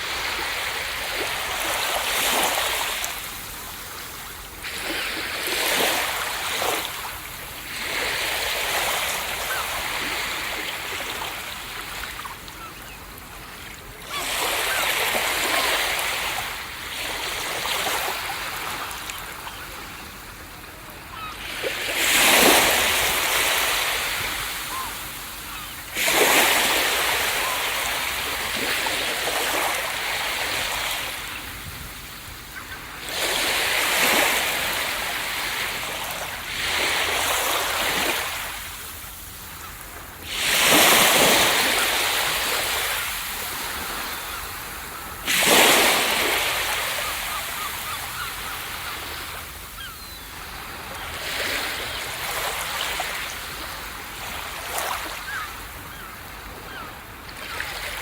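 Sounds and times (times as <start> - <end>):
ocean waves crashing on beach: 0.0 - 58.0.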